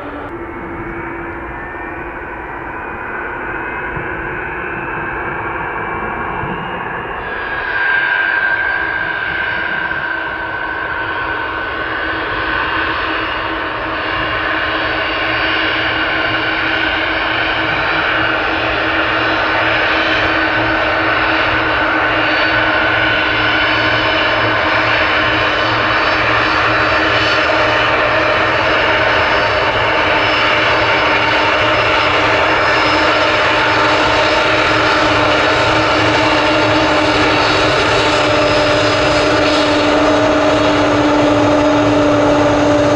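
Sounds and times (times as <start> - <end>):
aircraft engines running: 0.0 - 42.9.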